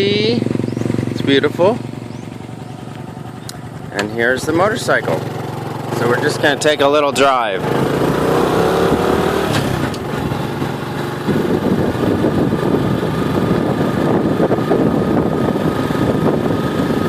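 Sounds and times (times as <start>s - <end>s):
small motorcycle engine revving: 0.0s - 17.0s.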